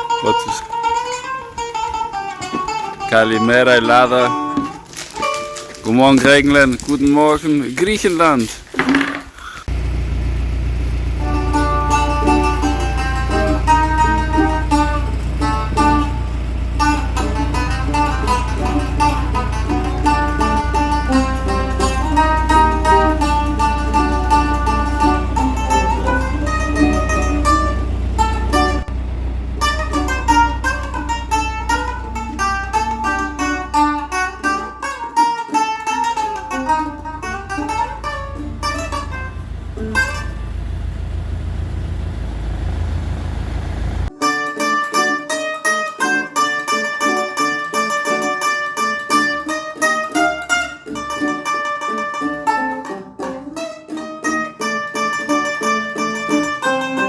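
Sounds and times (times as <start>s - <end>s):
plucked string music: 0.0s - 8.5s, 9.7s - 57.0s.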